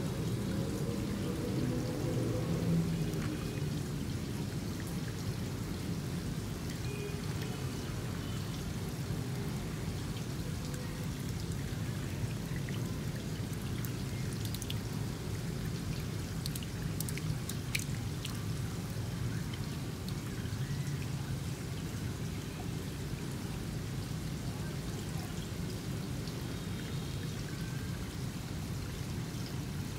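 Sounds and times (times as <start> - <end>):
water drips: 0.0 - 29.9
water splashing and trickling: 0.0 - 29.9.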